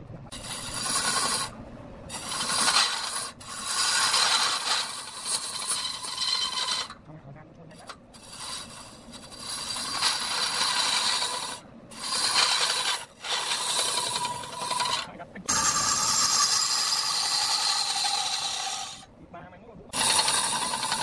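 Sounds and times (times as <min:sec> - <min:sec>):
cloth rasping on spinning wood: 0:00.3 - 0:07.0, 0:07.8 - 0:19.1, 0:20.0 - 0:21.0
lathe running: 0:00.4 - 0:07.0, 0:07.8 - 0:19.1, 0:20.0 - 0:21.0.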